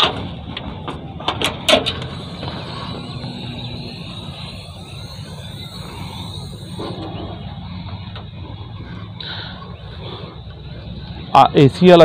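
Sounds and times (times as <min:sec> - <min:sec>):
thin rising whine: 0:01.8 - 0:11.6.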